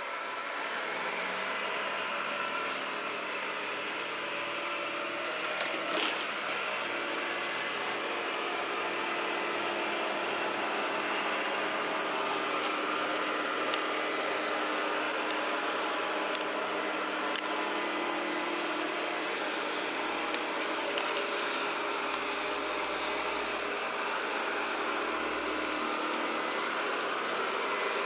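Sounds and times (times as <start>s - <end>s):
robot vacuum whirring: 0.2s - 28.0s.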